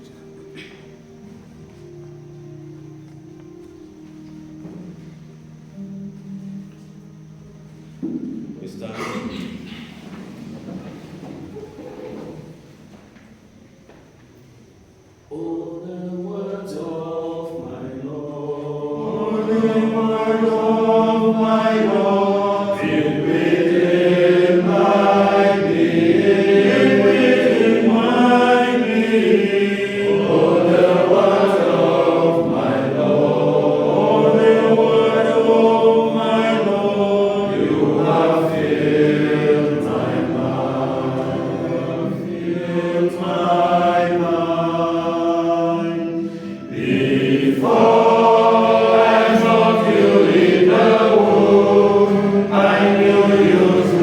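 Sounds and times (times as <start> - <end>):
choir singing a hymn: 0.0 - 13.0, 15.2 - 54.0.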